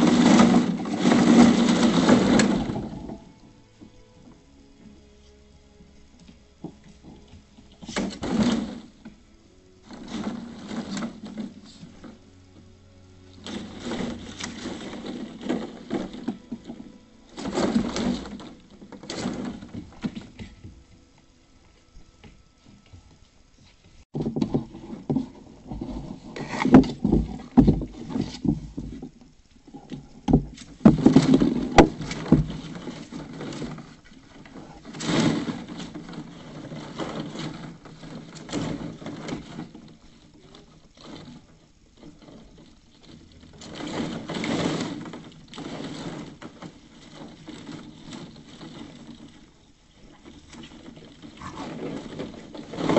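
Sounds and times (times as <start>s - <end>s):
plastic balls clattering and rustling: 0.0s - 52.9s.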